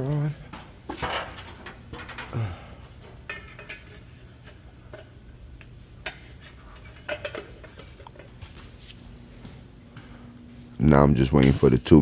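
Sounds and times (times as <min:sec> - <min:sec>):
boiler room equipment hum: 0:00.0 - 0:12.0.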